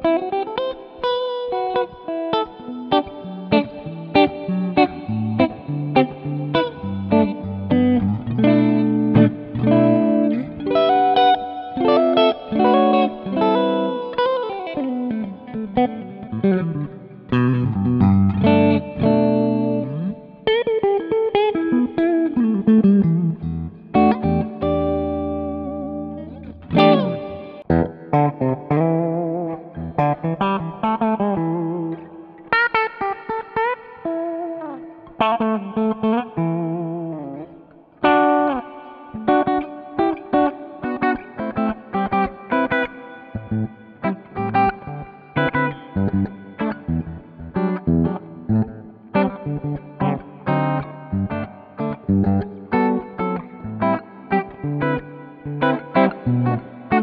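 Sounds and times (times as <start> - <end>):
clean electric guitar playing: 0.0 - 57.0.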